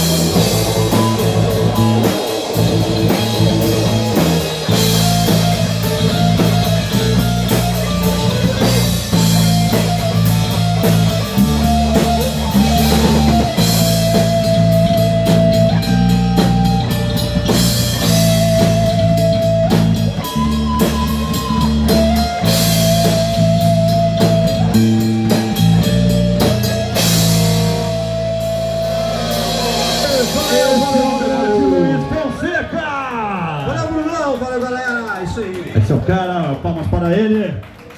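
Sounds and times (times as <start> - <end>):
drum kit: 0.0 - 35.7
electric guitars and bass: 0.0 - 36.8.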